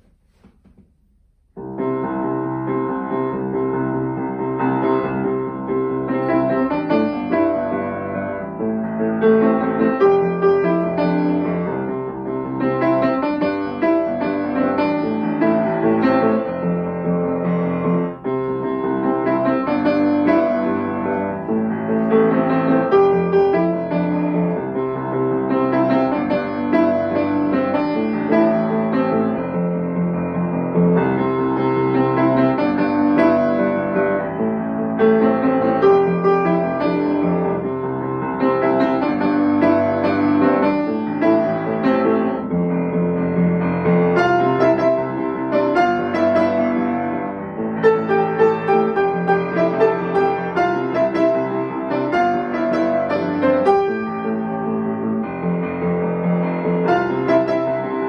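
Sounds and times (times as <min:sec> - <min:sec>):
solo piano: 0:00.0 - 0:58.0.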